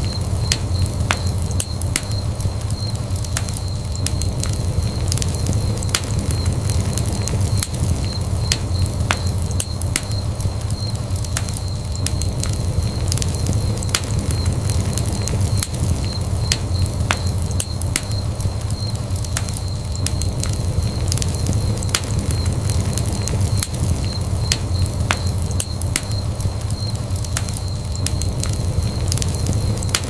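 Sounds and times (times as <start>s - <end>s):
fire rumbling: 0.0s - 30.0s
logs crackling and popping: 0.0s - 30.0s.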